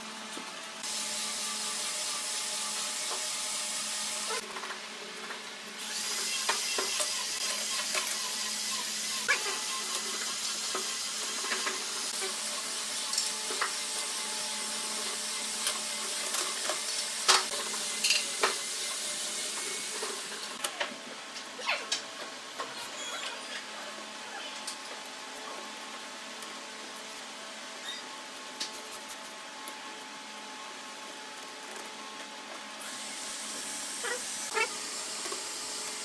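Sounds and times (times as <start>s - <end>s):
steady background hum: 1.6s - 36.0s.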